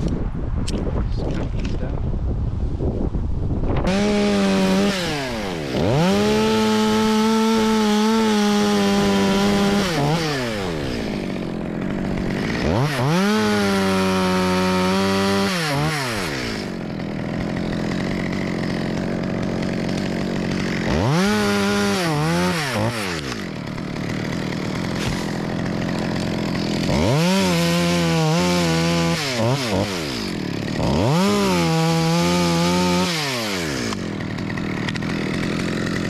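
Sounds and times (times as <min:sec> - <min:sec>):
chainsaw cutting wood: 0:03.7 - 0:36.0.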